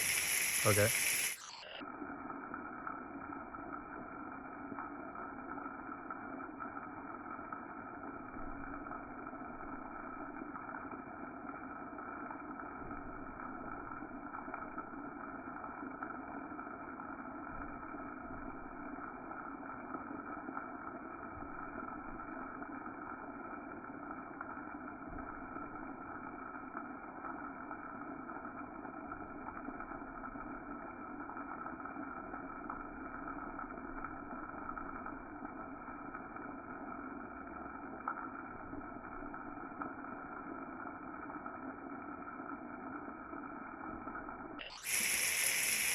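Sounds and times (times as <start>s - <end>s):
shower head spraying water: 0.0s - 8.2s, 11.4s - 45.9s.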